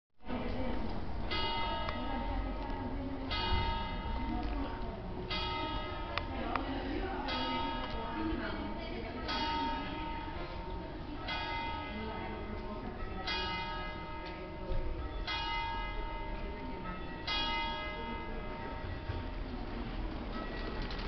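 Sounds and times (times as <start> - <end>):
church bells ringing: 1.2 - 20.7.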